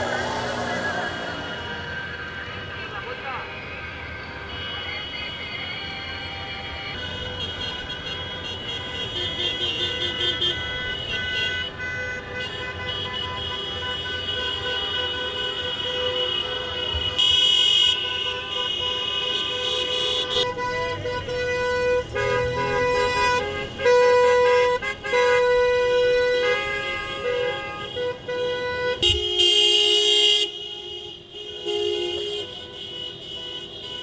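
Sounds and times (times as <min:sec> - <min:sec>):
running traffic: 0:00.0 - 0:34.0
car horns honking: 0:04.4 - 0:34.0.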